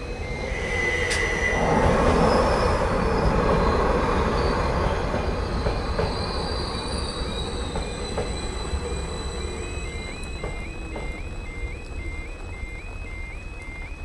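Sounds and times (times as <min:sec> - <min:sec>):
level crossing warning alarm: 0:00.0 - 0:04.3, 0:05.6 - 0:14.0
high wavering squeals: 0:00.0 - 0:14.0
train wheels rumbling on rail: 0:00.0 - 0:14.0.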